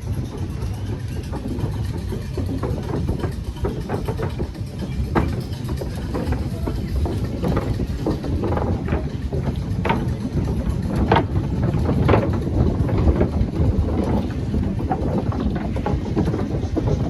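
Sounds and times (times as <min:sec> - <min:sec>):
sharp clacks: 0:00.0 - 0:17.0
tram car rumble: 0:00.0 - 0:17.0.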